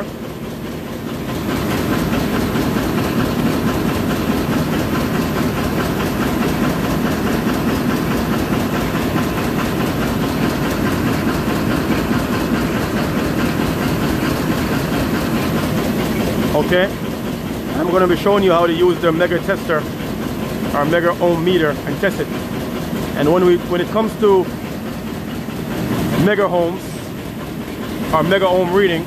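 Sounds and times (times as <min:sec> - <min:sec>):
hvac machinery drone: 0:00.0 - 0:29.0.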